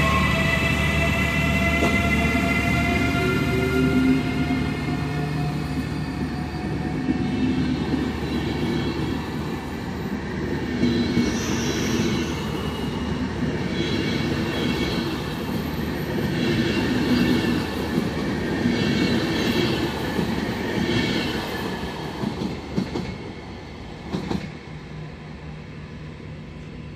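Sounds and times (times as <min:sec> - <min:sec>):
train coaches rumbling: 0:00.0 - 0:26.9.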